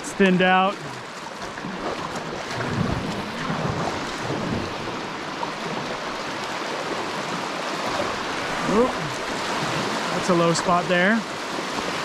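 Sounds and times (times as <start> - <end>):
creek water rushing and splashing: 0.0 - 12.0.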